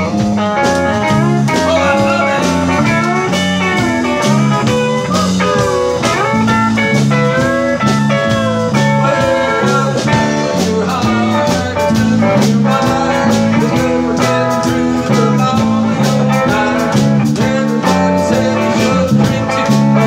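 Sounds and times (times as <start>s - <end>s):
acoustic guitar: 0.0s - 20.0s
drums: 0.0s - 20.0s
electric bass: 0.0s - 20.0s
electric lead guitar: 0.0s - 20.0s.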